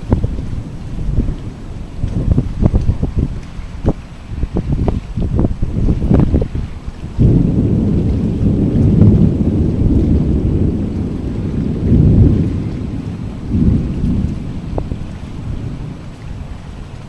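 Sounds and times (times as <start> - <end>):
loud low storm rumble: 0.0 - 17.0.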